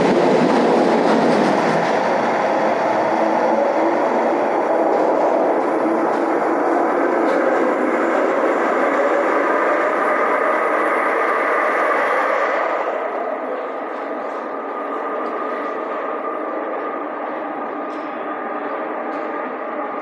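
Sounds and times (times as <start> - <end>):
train running on track: 0.0 - 20.0.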